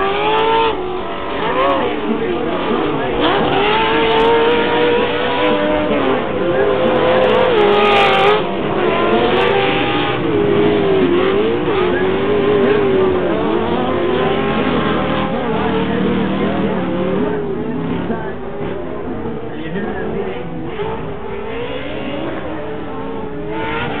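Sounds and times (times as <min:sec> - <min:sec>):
race truck engines revving: 0:00.0 - 0:24.0.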